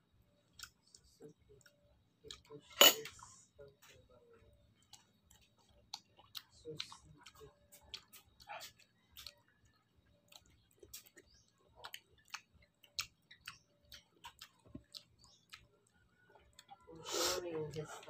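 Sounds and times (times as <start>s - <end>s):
chewing: 0.5s - 17.0s.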